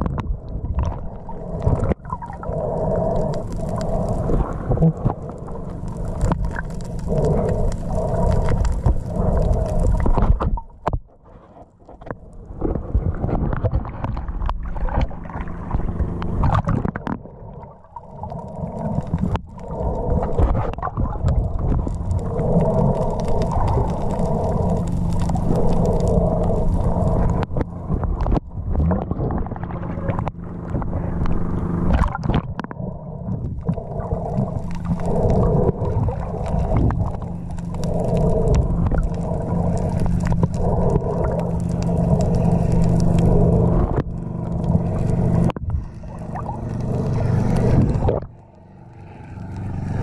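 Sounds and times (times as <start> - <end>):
boat engine hum underwater: 0.0 - 50.0
muffled gurgling water: 0.0 - 50.0.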